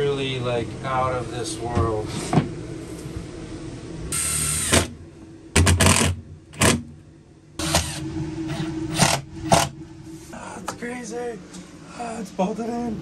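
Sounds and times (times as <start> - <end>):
fan running: 0.0 - 13.0.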